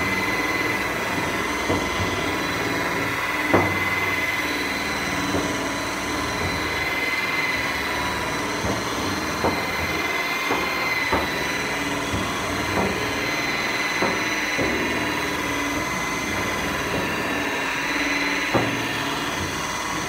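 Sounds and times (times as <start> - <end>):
rotary buffer motor whine: 0.0 - 20.0.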